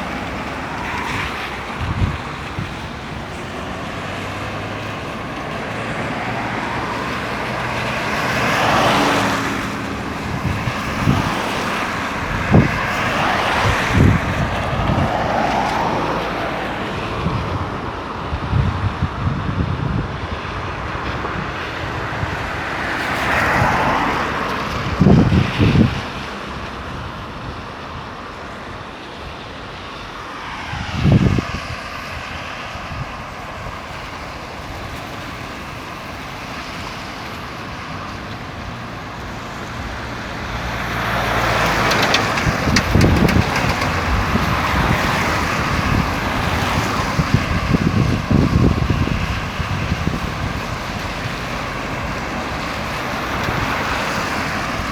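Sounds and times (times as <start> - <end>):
cars passing on highway: 0.0 - 54.9.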